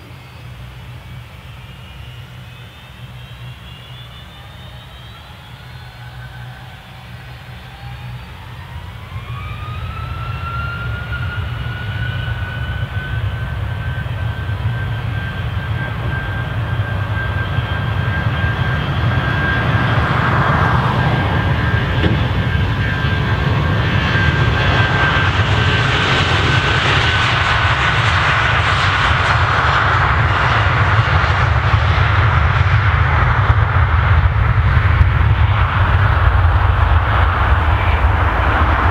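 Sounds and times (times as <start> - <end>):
deep jet roar: 0.0 - 38.9
jet engine high whine: 0.0 - 38.9.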